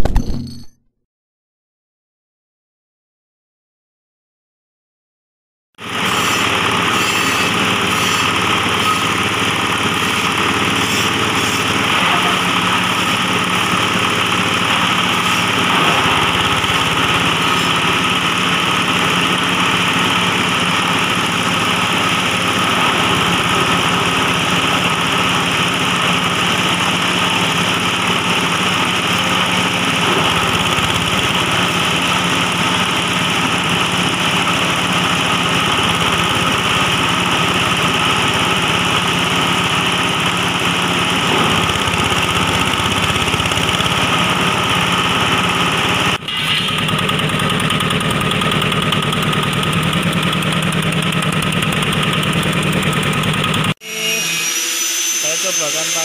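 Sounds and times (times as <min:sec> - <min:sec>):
grass chopper machine drone: 0:05.8 - 0:56.0.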